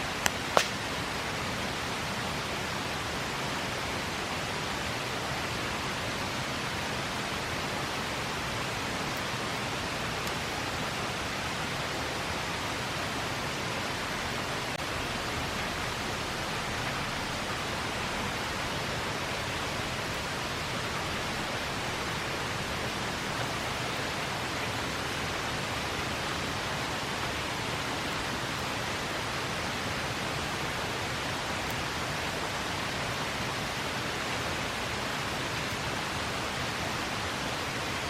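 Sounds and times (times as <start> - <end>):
river rushing: 0.0 - 38.0.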